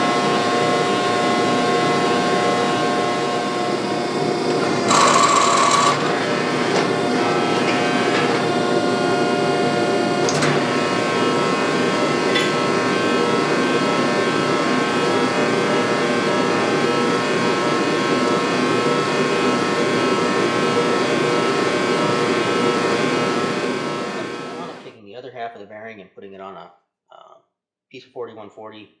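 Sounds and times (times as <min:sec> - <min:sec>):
shop machine running: 0:00.0 - 0:24.9.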